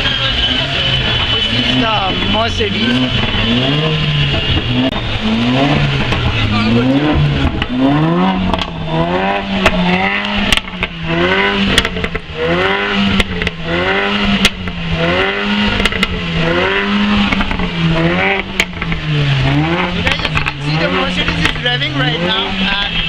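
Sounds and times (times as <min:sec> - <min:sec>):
car engine revving: 0:00.0 - 0:23.0
sharp exhaust cracks: 0:00.0 - 0:23.0.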